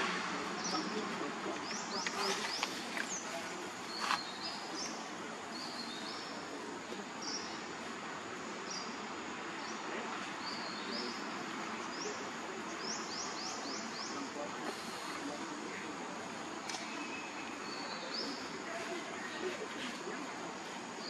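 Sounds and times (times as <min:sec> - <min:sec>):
small birds chirping: 0:00.0 - 0:21.0
steady background hiss: 0:00.0 - 0:21.0.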